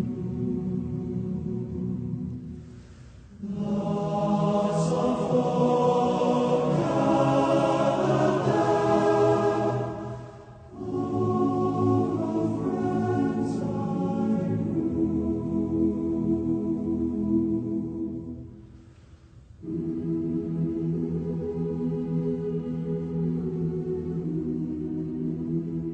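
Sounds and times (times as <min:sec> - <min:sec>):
choir singing sustained chords: 0:00.0 - 0:25.9.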